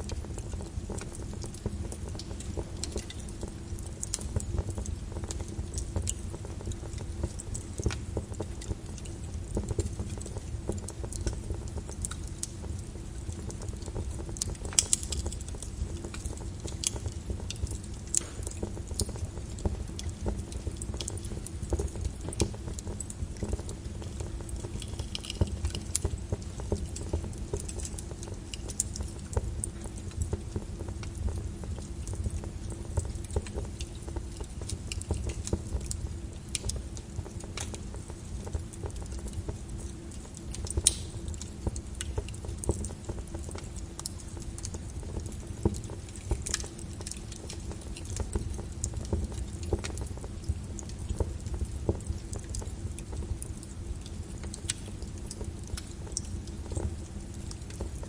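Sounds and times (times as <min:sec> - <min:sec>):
lava crackling: 0:00.0 - 0:58.0.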